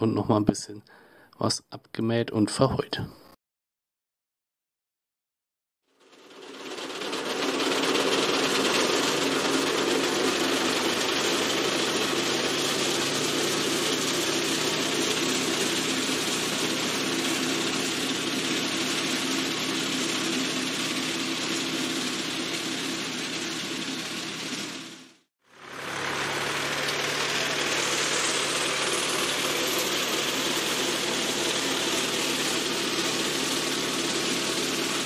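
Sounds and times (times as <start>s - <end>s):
tractor diesel engine running: 6.0s - 35.0s.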